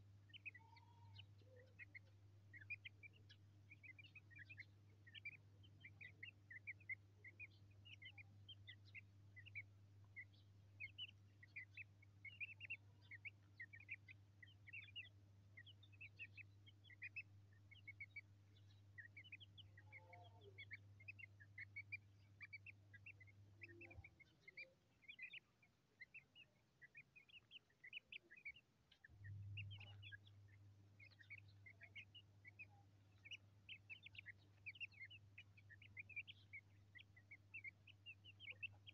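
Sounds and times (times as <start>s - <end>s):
chicks peeping: 0.0s - 38.9s
steady low hum: 0.0s - 38.9s.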